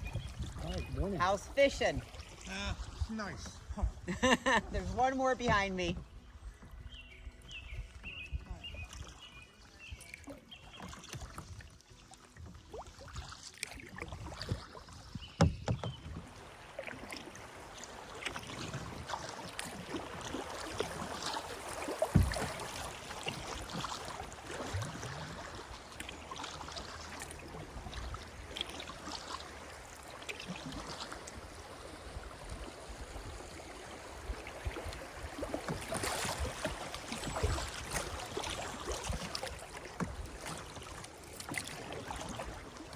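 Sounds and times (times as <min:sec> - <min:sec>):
kayak paddle splashing: 0:00.0 - 0:42.9.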